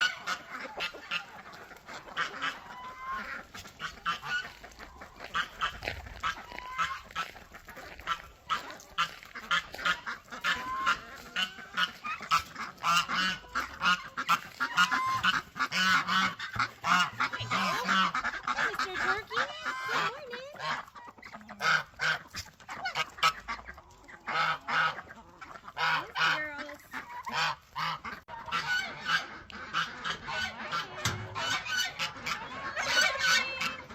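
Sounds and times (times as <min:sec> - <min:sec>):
poultry honking and squawking: 0:00.0 - 0:33.9.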